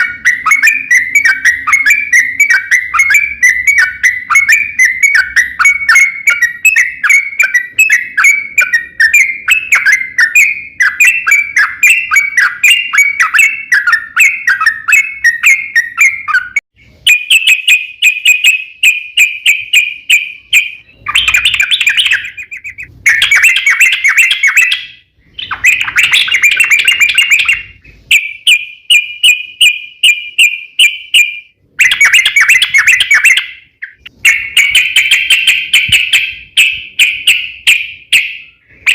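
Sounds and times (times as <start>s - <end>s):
bulbul singing chattering notes: 0.0s - 38.9s.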